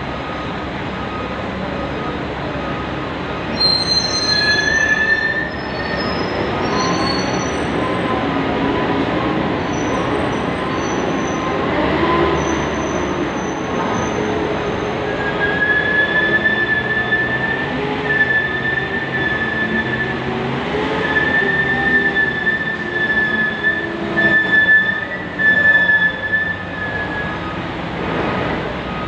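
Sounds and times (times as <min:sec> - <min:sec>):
trucks rumbling on steel ramp: 0:00.0 - 0:29.0
high squeals: 0:03.5 - 0:27.6.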